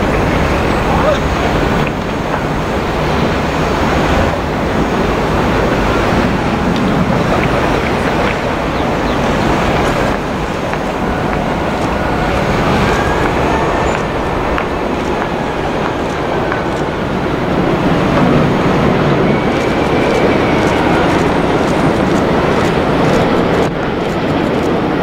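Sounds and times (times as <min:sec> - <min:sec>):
jet airliner rumble: 0:00.0 - 0:25.0.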